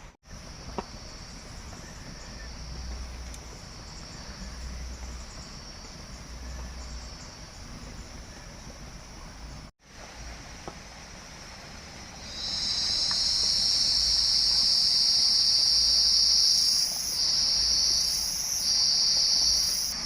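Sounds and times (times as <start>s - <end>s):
insects trilling: 0.3s - 9.7s, 12.2s - 20.0s.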